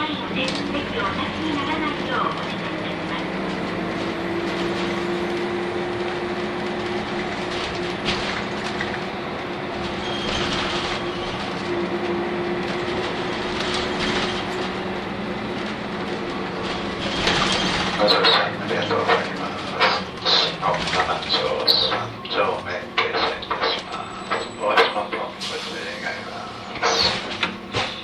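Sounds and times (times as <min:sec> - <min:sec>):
bus engine hum: 0:00.0 - 0:28.0
road noise: 0:00.0 - 0:28.0.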